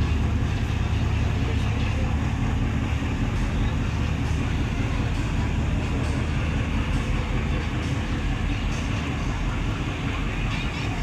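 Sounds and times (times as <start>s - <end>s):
ship engine low rumble: 0.0s - 11.0s.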